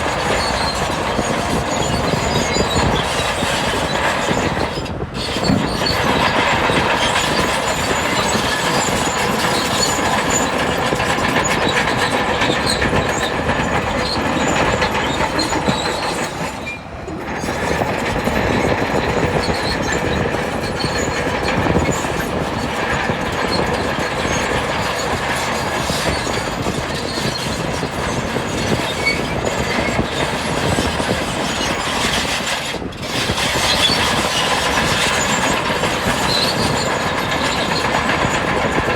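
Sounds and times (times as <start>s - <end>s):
bulldozer running: 0.0s - 38.9s
steel tracks clanking and squealing: 0.0s - 38.9s.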